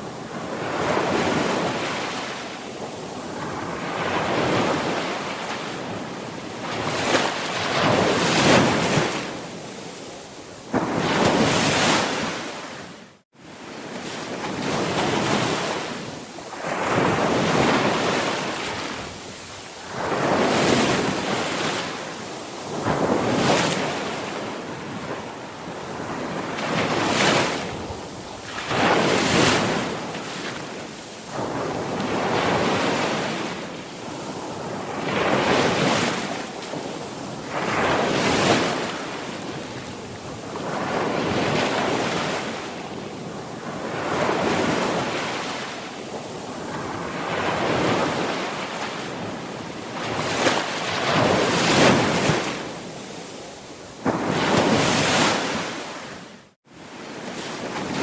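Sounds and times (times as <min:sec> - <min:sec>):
sea waves breaking: 0:00.0 - 0:58.0.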